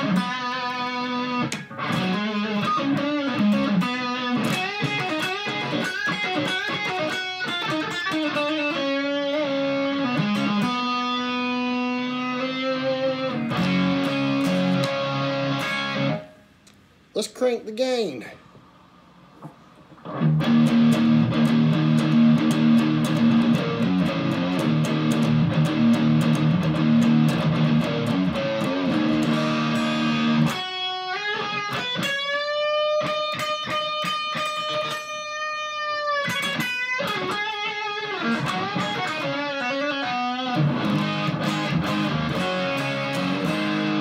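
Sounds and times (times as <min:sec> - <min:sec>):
distorted electric guitar: 0:00.0 - 0:16.4, 0:19.4 - 0:44.0.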